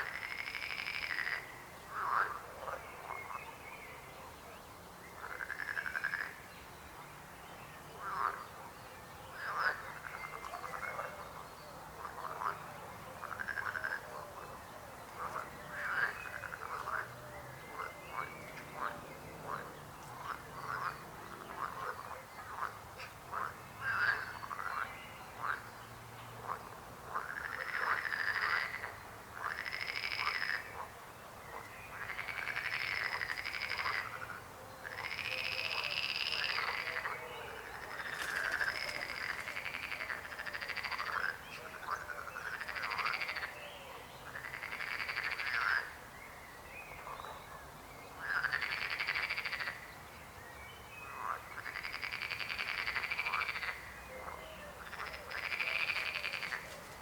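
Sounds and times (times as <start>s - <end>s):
frogs croaking: 0.0s - 7.0s, 7.7s - 57.0s.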